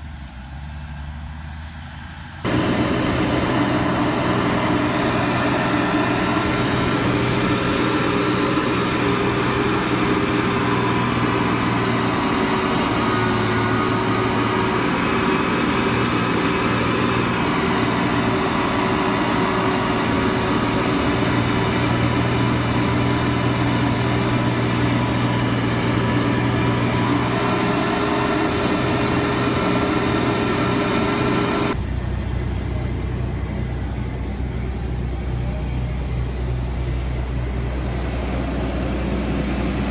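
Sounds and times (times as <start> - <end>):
machine drone with hiss: 2.4 - 39.9.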